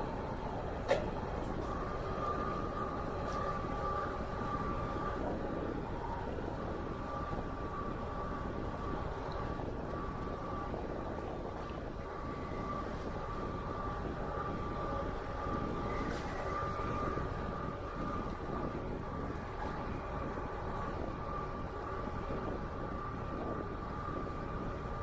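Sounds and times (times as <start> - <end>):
bicycle tyre noise on path: 0.0 - 25.0
steady high whine: 0.0 - 25.0
wind rushing over microphone: 0.0 - 25.0.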